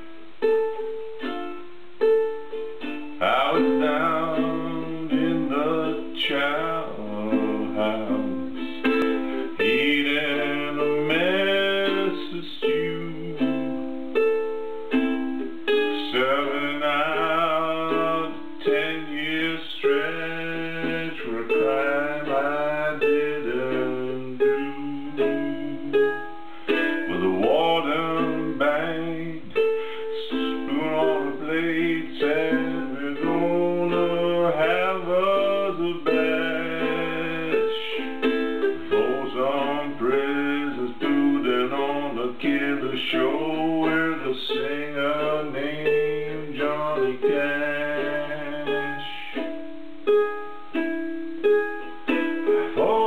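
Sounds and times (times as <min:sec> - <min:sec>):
harmonica playing: 0:00.0 - 0:53.0
plucked string blues: 0:00.0 - 0:53.0.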